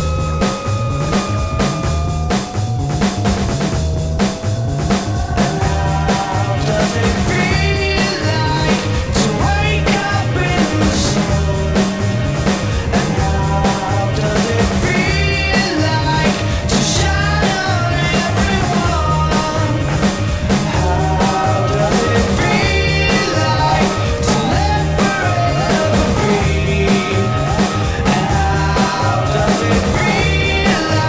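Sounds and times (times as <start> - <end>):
drum beat: 0.0 - 31.0
person singing: 0.0 - 31.0
rock song: 0.0 - 31.0.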